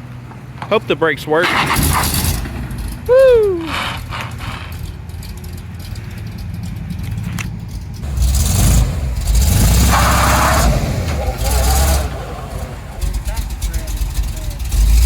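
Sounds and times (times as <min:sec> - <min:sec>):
pickup engine running: 0:01.5 - 0:15.0.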